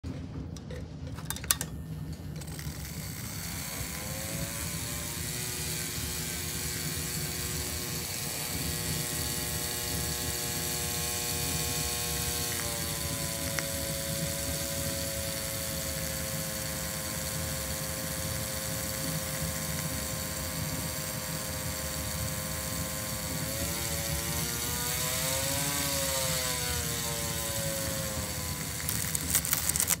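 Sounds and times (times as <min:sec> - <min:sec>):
motor crackles: 0:00.6 - 0:30.0
small electric motor whining: 0:01.4 - 0:30.0
motor brush hiss: 0:02.4 - 0:30.0.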